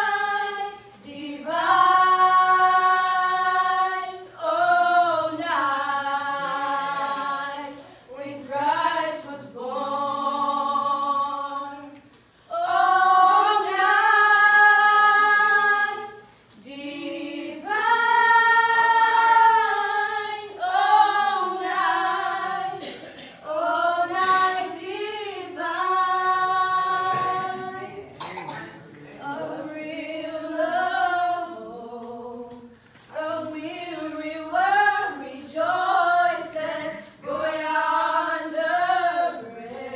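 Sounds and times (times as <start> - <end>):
girls singing in harmony: 0.0 - 39.9.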